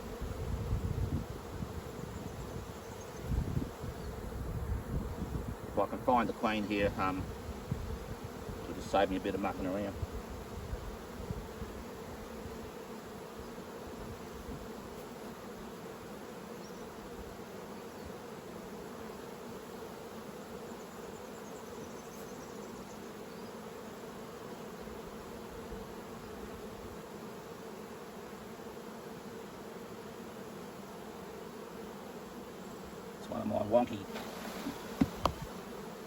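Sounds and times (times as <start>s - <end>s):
honeybees buzzing: 0.0s - 36.0s.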